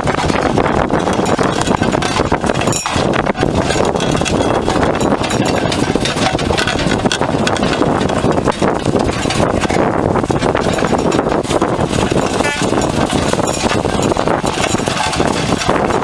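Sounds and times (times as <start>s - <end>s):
train wheels clattering: 0.0s - 16.0s.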